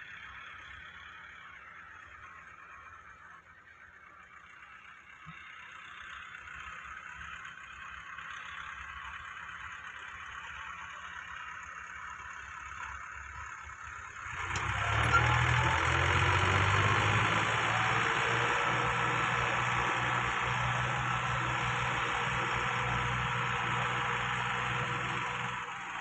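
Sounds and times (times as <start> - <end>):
tractor diesel engine revving: 4.4 - 26.0.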